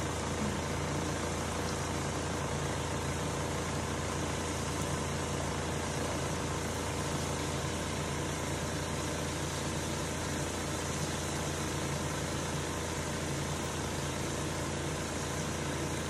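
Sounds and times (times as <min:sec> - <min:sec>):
range hood fan humming: 0:00.0 - 0:16.0
sauce simmering in pan: 0:00.0 - 0:16.0.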